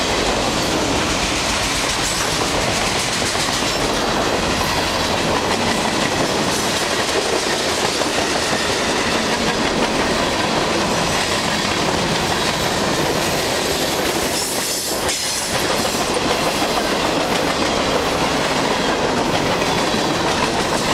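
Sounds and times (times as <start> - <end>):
freight train wheels clattering: 0.0 - 20.9.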